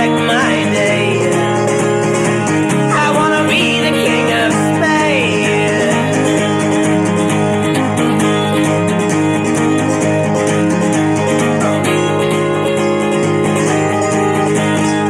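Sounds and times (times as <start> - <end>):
acoustic guitar strumming folk music: 0.0 - 15.0.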